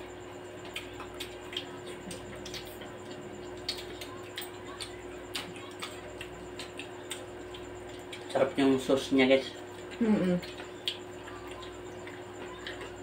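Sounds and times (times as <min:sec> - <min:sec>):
people chewing and lip smacking: 0:00.0 - 0:13.0
steady low hum: 0:00.0 - 0:13.0.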